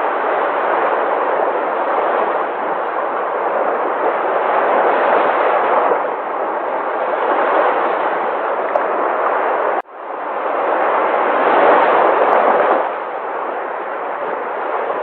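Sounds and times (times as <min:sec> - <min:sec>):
sea waves breaking: 0:00.0 - 0:15.0.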